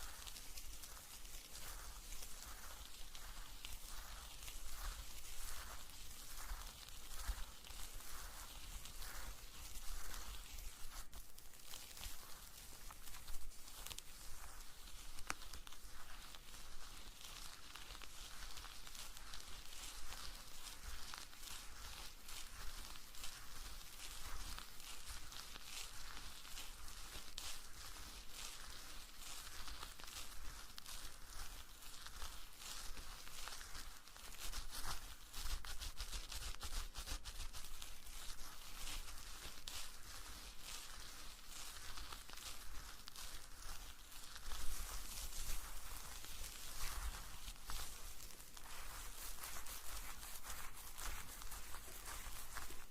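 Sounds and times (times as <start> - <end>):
small clicks and crackles: 0.0 - 52.9
soft rustling hiss: 0.0 - 52.9.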